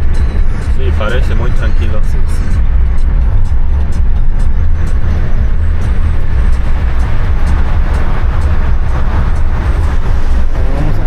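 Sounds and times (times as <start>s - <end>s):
car interior road and engine rumble: 0.0s - 11.0s.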